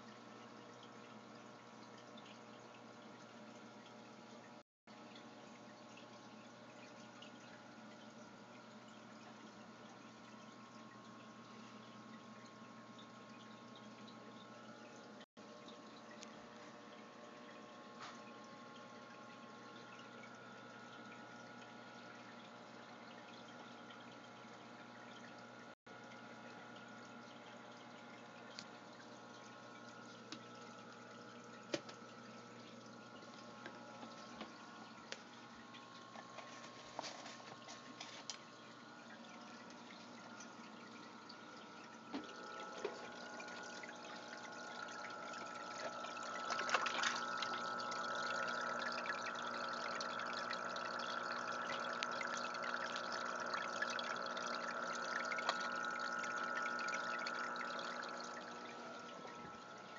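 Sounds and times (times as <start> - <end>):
aquarium water trickling: 0.0 - 59.9
steady hum: 5.0 - 59.9.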